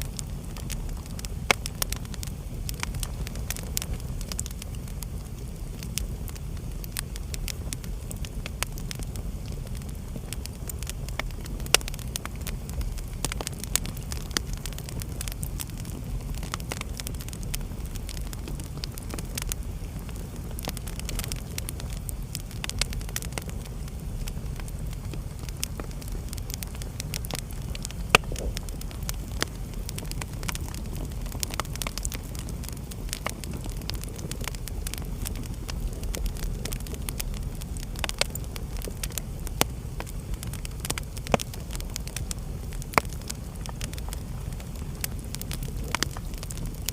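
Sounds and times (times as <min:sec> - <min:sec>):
fire crackles and pops: 0:00.0 - 0:46.9
low rumble of flames: 0:00.0 - 0:46.9.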